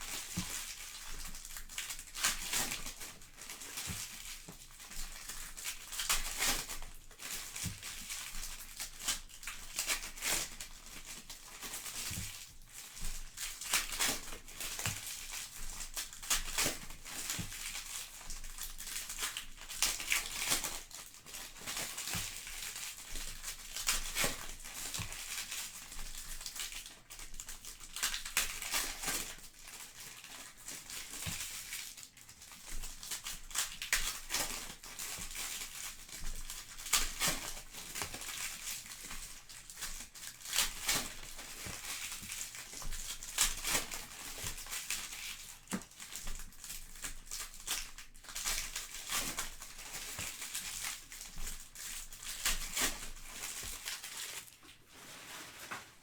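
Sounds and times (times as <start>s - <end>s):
plastic wrappers crinkling and tearing: 0.0s - 56.0s.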